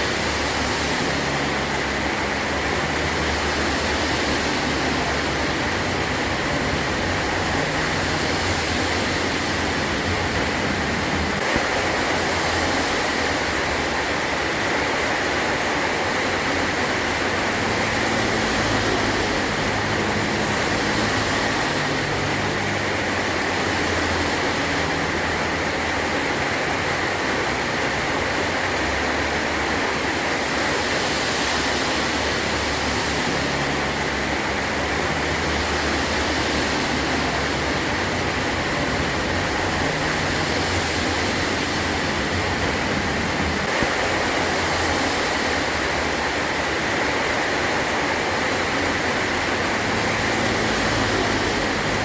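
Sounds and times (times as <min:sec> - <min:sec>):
heavy rain on a tin roof: 0:00.0 - 0:52.0.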